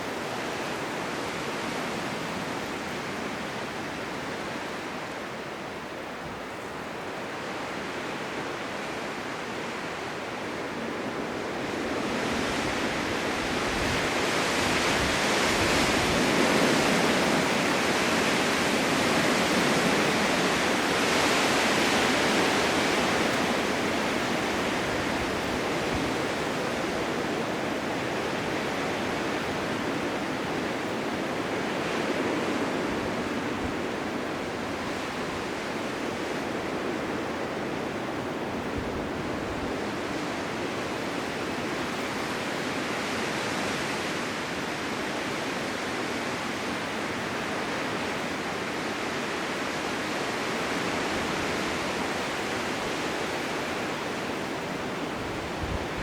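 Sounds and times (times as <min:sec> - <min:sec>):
blizzard wind rushing: 0:00.0 - 0:56.0.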